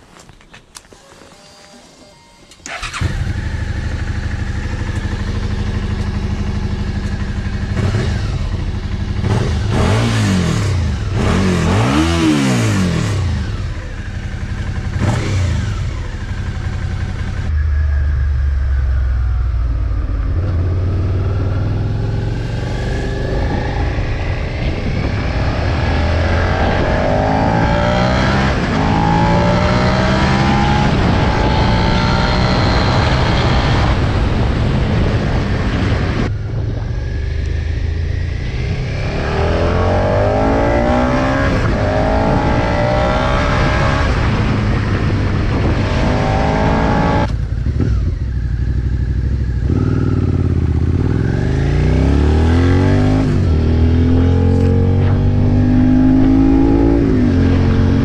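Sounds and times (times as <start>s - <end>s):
motorcycle engine accelerating: 2.6s - 58.0s.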